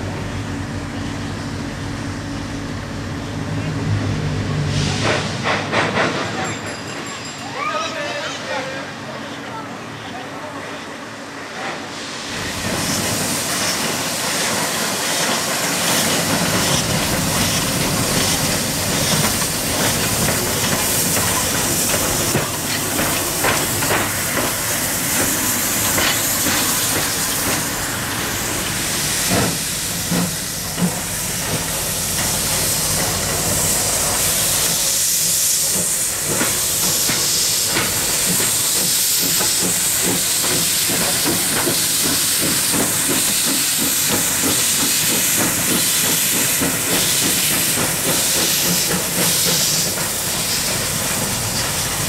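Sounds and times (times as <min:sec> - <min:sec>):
loud steam hiss: 0:08.4 - 0:52.0.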